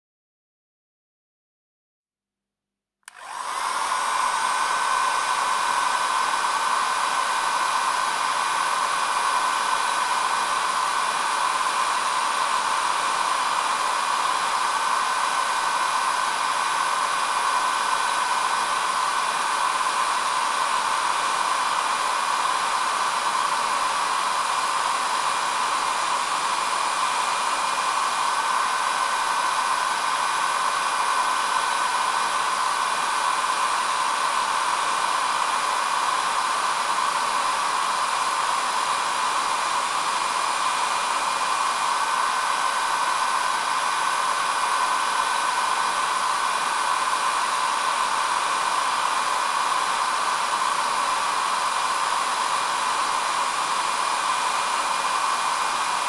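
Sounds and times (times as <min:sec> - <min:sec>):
hair dryer running: 0:03.0 - 0:56.0.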